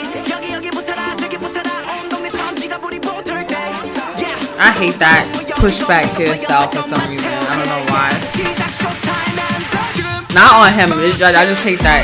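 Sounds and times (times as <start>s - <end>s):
pop song with sung vocals: 0.0s - 12.0s.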